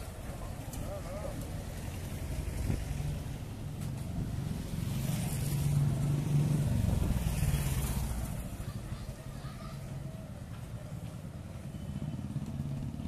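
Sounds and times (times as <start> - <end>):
motorcycle passing by: 0.0 - 13.0
street traffic: 0.0 - 13.0.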